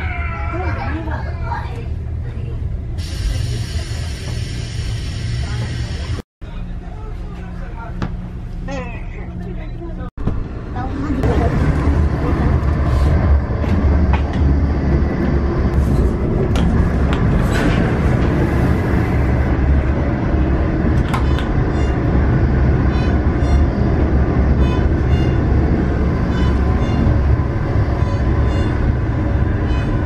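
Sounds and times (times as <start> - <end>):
train rumble inside carriage: 0.0 - 30.0.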